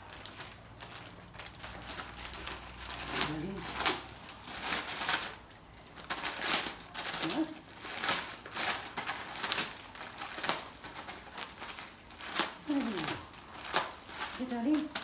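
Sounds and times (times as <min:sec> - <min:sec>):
wrapping paper tearing: 0:00.0 - 0:15.0.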